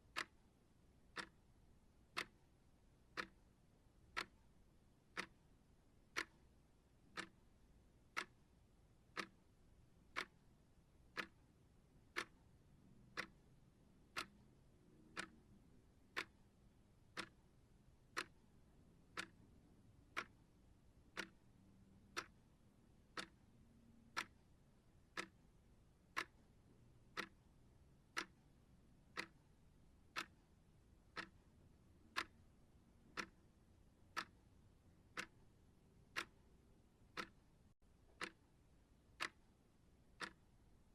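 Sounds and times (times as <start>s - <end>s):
clock ticking: 0.0s - 0.5s, 1.1s - 4.5s, 5.1s - 8.4s, 9.0s - 10.5s, 11.1s - 40.8s.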